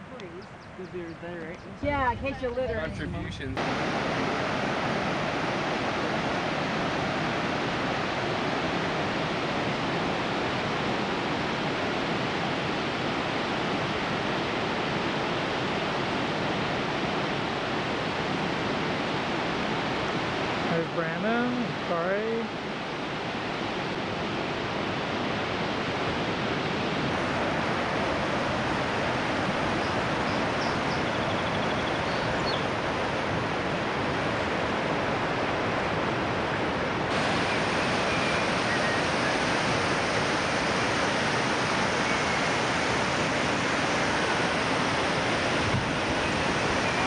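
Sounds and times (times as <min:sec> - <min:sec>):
whitewater rushing over falls: 0:03.6 - 0:47.0.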